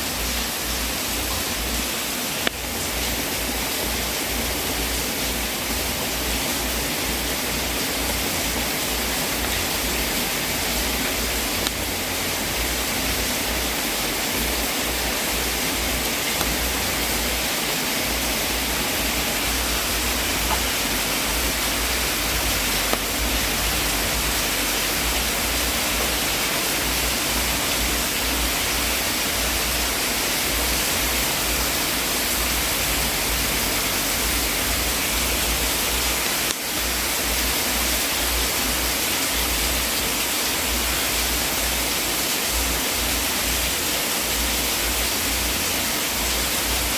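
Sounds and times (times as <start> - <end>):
fireplace rushing hiss: 0.0 - 46.9.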